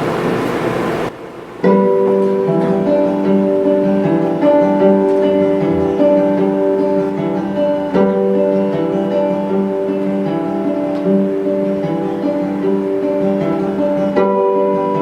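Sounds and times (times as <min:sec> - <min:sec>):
acoustic guitar picked notes: 0:00.0 - 0:15.0
guitar chord strummed: 0:01.6 - 0:15.0.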